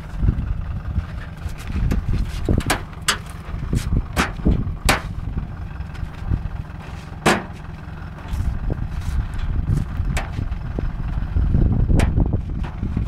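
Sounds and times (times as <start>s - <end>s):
low rumble of wind: 0.0s - 13.0s
vehicle rumble: 0.0s - 13.0s.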